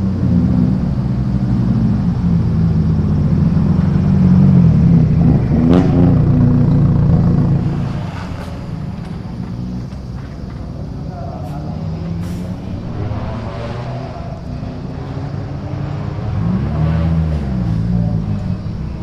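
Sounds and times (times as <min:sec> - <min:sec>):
modified car engines deep exhaust: 0:00.0 - 0:19.0.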